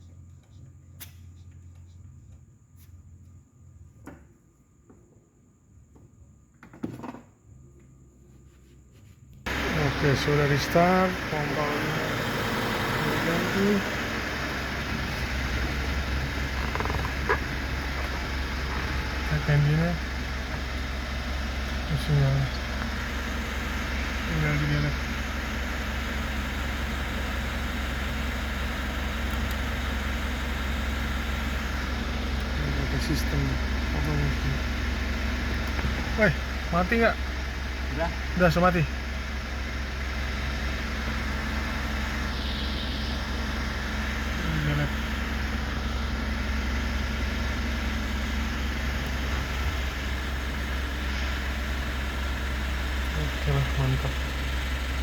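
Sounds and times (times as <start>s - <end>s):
diesel engine idling: 9.5s - 55.0s.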